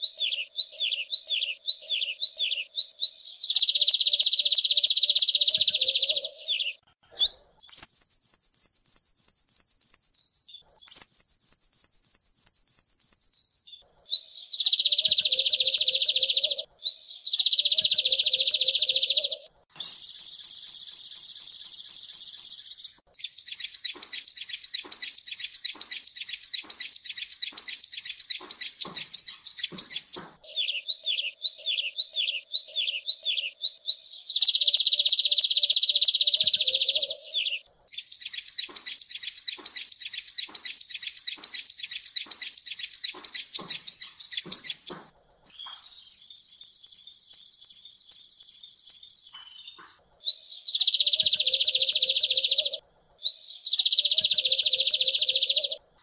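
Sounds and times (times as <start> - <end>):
sunbird singing: 0.0 - 56.0.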